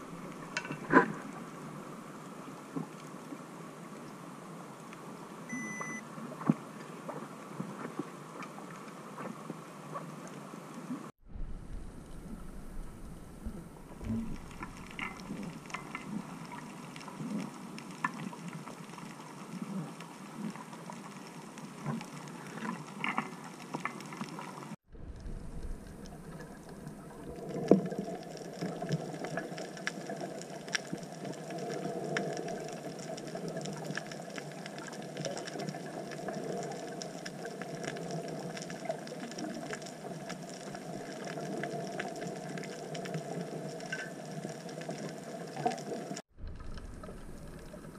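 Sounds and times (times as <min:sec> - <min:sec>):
low gurgles: 0:00.0 - 0:03.3, 0:10.9 - 0:47.9
underwater clicks and crackles: 0:00.0 - 0:04.2, 0:06.3 - 0:11.0, 0:11.7 - 0:47.9
muffled underwater wash: 0:00.0 - 0:47.9.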